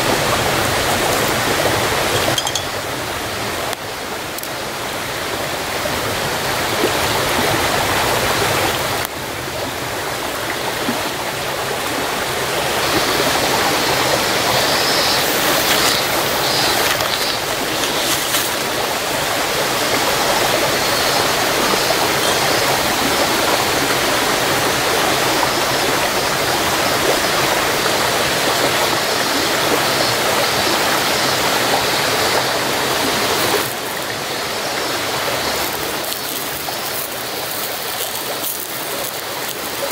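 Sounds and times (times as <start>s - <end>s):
stream rushing water: 0.0s - 39.9s.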